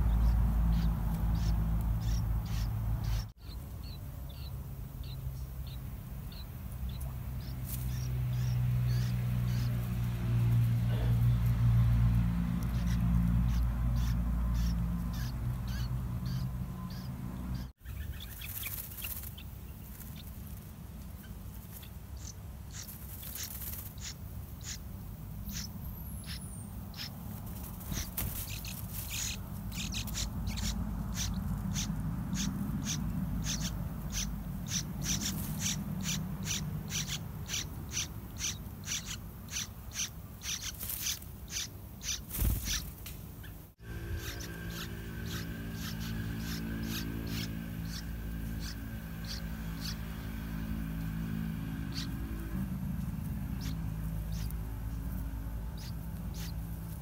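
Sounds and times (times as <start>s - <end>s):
nestlings chirping: 0.0s - 57.0s.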